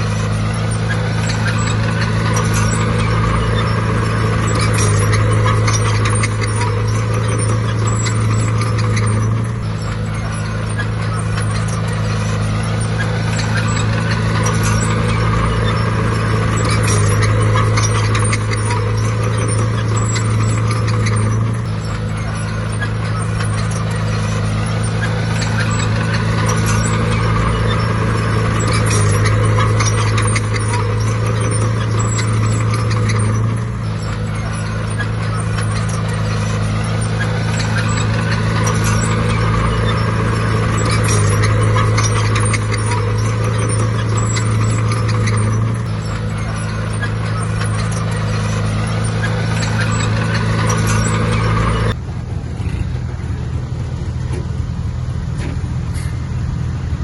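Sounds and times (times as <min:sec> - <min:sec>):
bulldozer diesel engine under load: 0:00.0 - 0:57.0
rattling clatter: 0:00.0 - 0:57.0.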